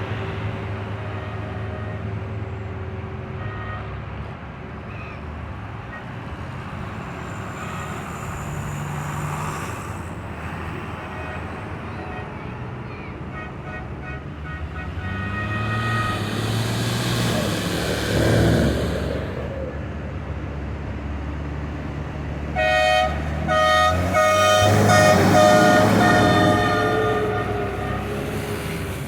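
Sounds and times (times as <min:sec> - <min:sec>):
tractor engines running: 0:04.0 - 0:29.0.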